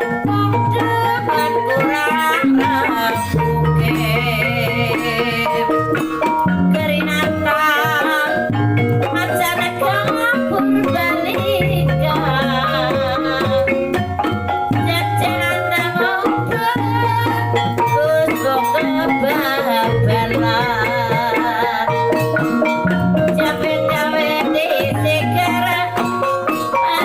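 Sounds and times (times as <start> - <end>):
drums and gongs: 0.0 - 27.0
wavering melody line: 0.0 - 27.0.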